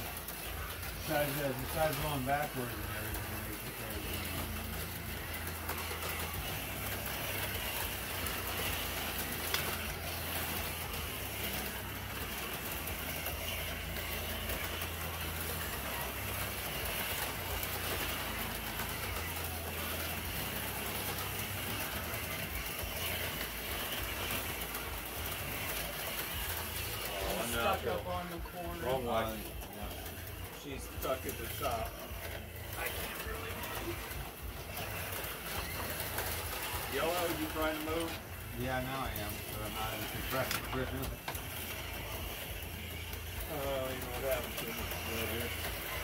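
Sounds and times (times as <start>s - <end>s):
slot car motors whirring: 0.0s - 46.0s.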